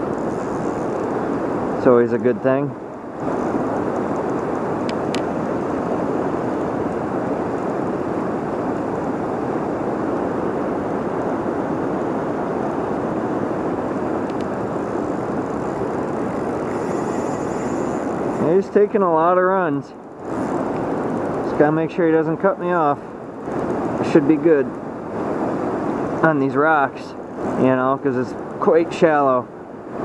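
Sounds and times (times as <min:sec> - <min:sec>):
floodwater rushing through rapids: 0:02.7 - 0:30.0.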